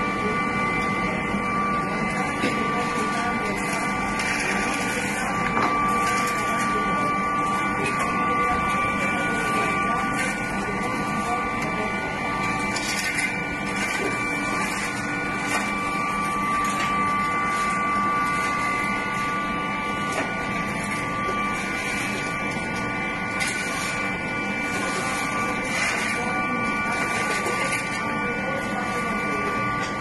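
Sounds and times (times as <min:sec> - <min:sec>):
constant high whine: 0:00.0 - 0:30.0
machinery droning: 0:00.0 - 0:30.0.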